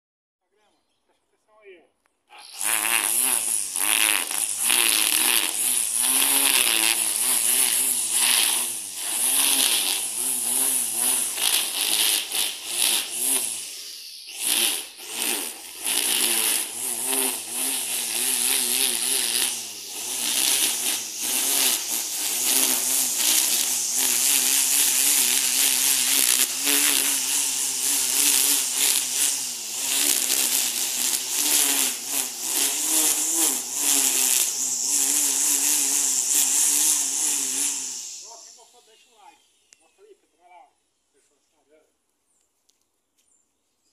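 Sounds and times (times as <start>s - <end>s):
electric string trimmer whine: 2.3s - 39.4s
trimmer line hiss: 2.3s - 40.0s.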